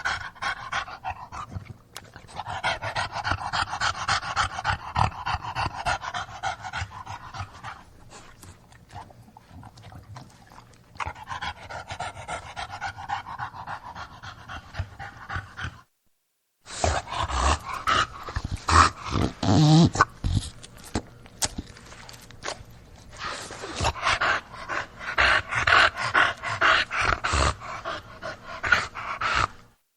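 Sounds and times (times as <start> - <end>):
dog grunting: 0.0 - 8.3, 11.0 - 15.9, 16.7 - 21.1, 23.1 - 29.6
dog panting and snuffling: 0.0 - 15.8, 16.7 - 21.1, 21.8 - 29.6
dog snorting: 0.0 - 15.9, 16.7 - 21.1, 22.5 - 29.6.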